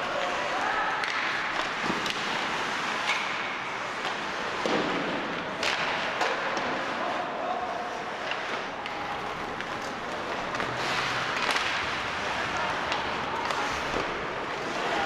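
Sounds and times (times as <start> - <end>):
hockey sticks and puck cracking: 0.0 - 15.0
steady rink din: 0.0 - 15.0.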